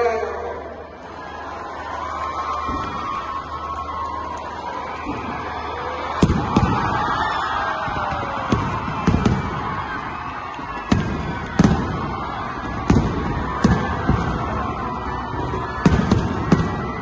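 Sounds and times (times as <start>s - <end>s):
fireworks bangs: 2.5s - 17.0s.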